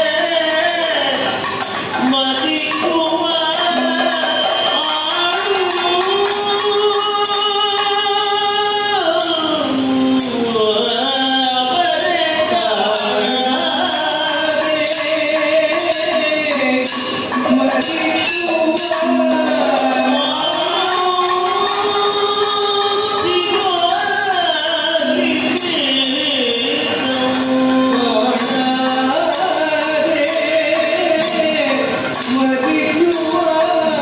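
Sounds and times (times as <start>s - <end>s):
drums: 0.0s - 34.0s
person singing long sliding notes: 0.0s - 34.0s
small hand cymbals: 0.0s - 34.0s.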